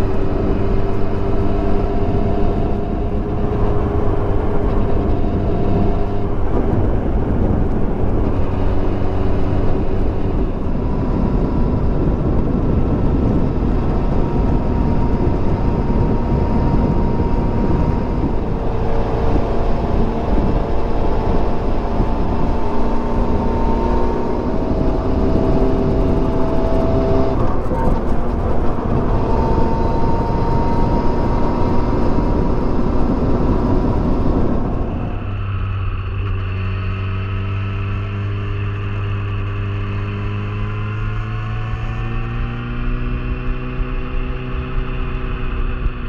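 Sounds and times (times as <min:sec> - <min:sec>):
motorcycle engine running: 0:00.0 - 0:46.0
wind and road noise: 0:00.0 - 0:46.0.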